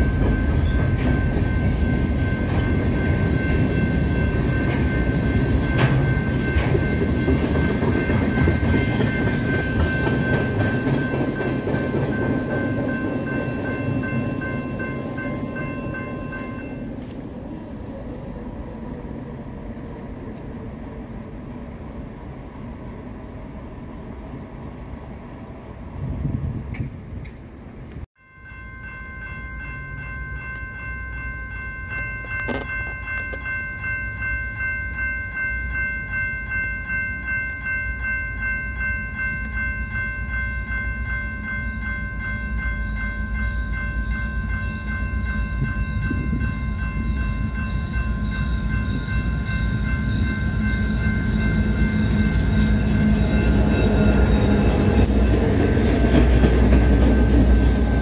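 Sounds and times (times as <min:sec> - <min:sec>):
crossing warning bell ringing: 0:00.0 - 0:17.2, 0:28.2 - 0:58.0
diesel freight train rumble: 0:00.0 - 0:28.0, 0:38.0 - 0:58.0.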